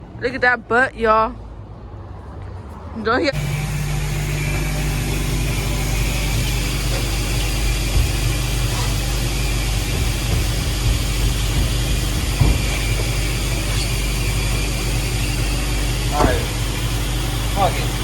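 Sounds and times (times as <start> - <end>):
vehicle engine idling: 2.2 - 18.0.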